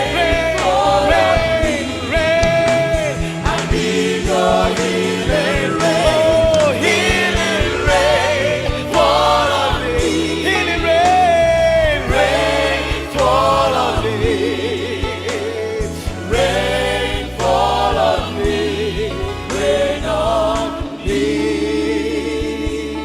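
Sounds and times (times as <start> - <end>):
choir singing: 0.0 - 23.0
keyboard and bass backing: 0.0 - 23.0.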